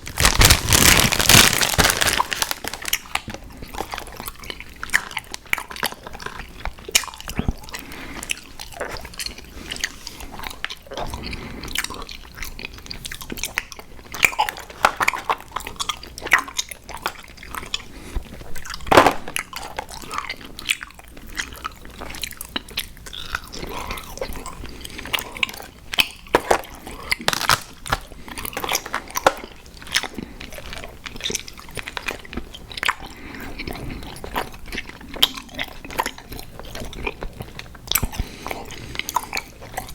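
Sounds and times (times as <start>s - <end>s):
wet chewing and crunching: 0.0s - 39.9s.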